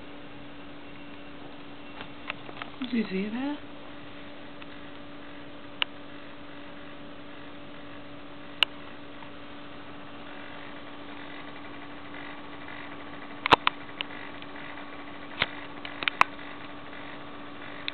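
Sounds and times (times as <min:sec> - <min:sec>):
laptop humming drone: 0:00.0 - 0:17.9.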